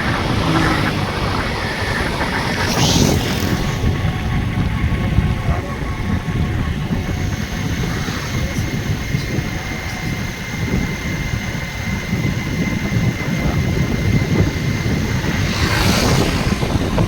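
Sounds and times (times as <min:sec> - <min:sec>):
faint steady whine: 0:00.0 - 0:17.0
vehicle engine rumble: 0:00.0 - 0:17.0.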